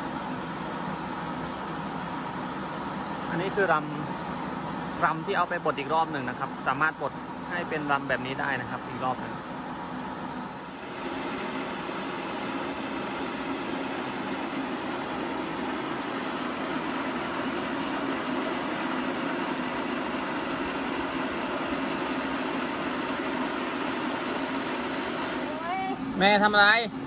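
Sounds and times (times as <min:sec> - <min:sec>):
electric rice mill humming: 0:00.0 - 0:27.0.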